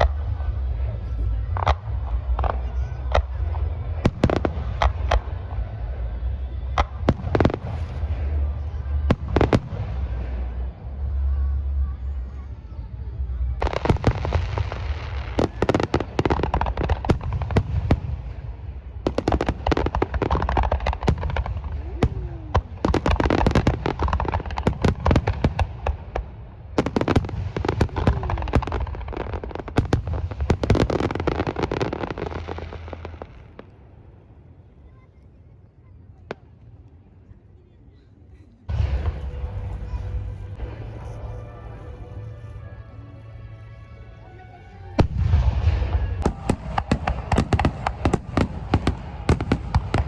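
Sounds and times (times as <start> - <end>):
fireworks crackling and banging: 0.0 - 34.2, 38.7 - 50.0.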